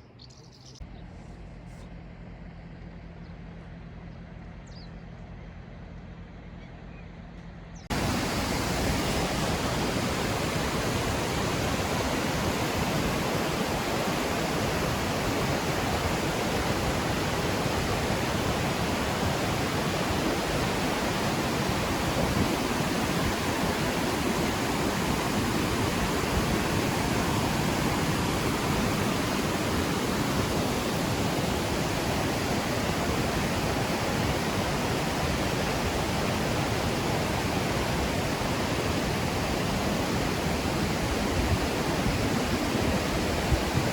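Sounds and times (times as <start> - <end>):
waterfall rushing: 7.9 - 43.9.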